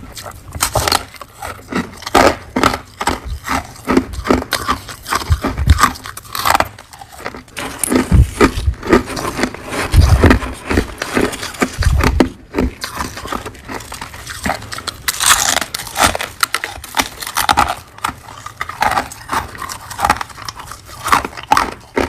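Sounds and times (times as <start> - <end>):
frost being bitten and chewed: 0.0 - 22.0.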